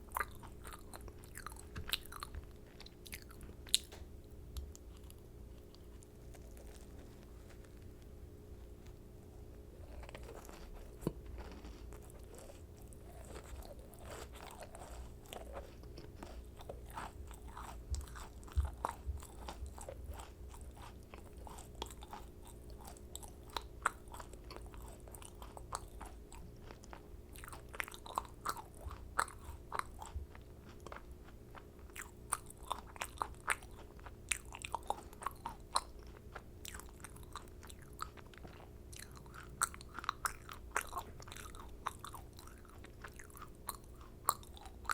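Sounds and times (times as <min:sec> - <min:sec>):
crunchy chewing: 0:00.0 - 0:44.9.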